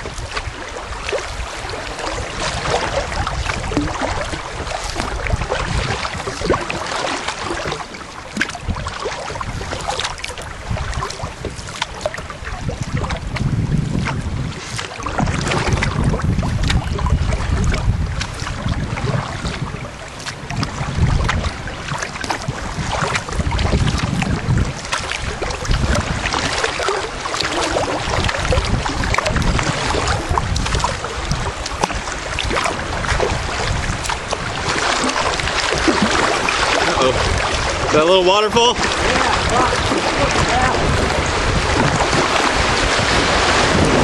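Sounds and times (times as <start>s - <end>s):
water splashing around boat: 0.0s - 44.0s
wind rumbling on microphone: 0.0s - 44.0s.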